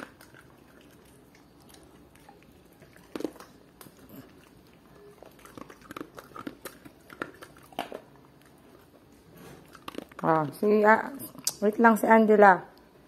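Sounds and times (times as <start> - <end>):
pets crunching dry kibble: 0.0 - 11.5.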